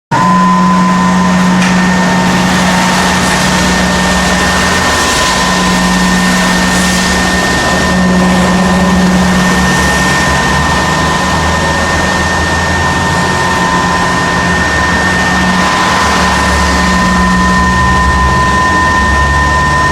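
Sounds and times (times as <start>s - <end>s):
axis motor hum: 0.1s - 19.9s
cnc router whine: 0.1s - 19.9s.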